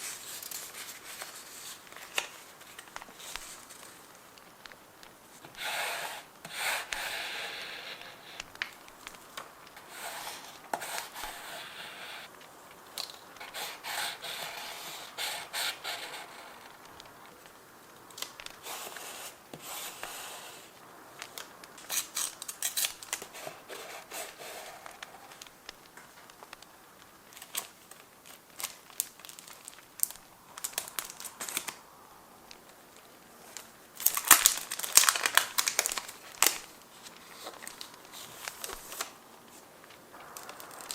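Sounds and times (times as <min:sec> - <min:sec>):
paper rubbing and crinkling: 0:00.0 - 0:31.8, 0:32.6 - 0:40.9.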